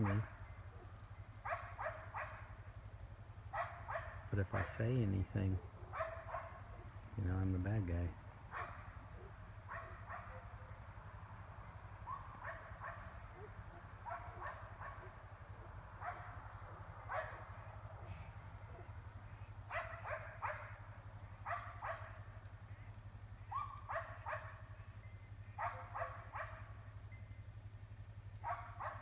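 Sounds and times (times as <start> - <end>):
dogs barking: 0.0 - 2.8, 3.4 - 27.1, 28.0 - 29.0
steady low hum: 0.0 - 29.0.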